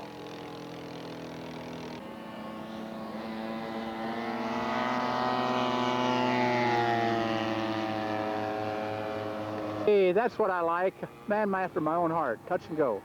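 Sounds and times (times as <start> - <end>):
model airplane engine passing: 0.0 - 13.0.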